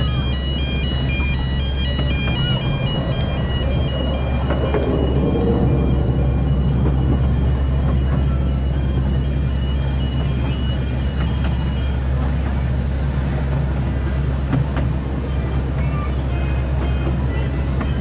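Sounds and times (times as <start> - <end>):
ride train humming and rumbling: 0.0 - 18.0.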